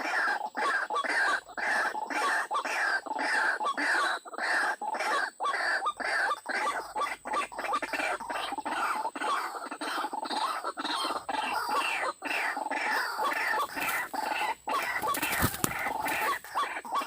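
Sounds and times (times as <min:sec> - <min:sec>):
waterhen harsh croaking calls: 0:00.0 - 0:17.0.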